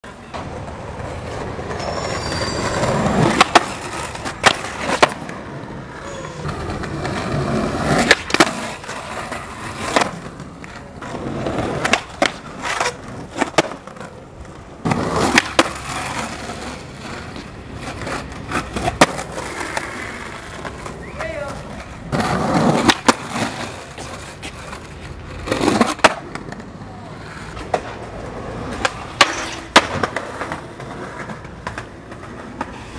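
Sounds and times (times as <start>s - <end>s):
skateboard wheels rolling on concrete: 0.0s - 32.9s
skateboard clacks: 0.1s - 32.9s.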